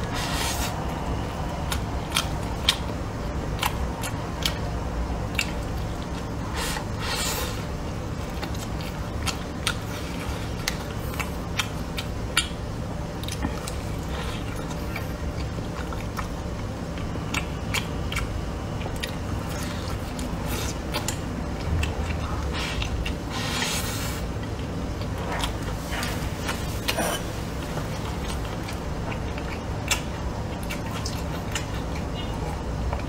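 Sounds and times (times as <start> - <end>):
low steady hum: 0.0 - 33.0
chewing with wet mouth clicks: 0.1 - 33.0.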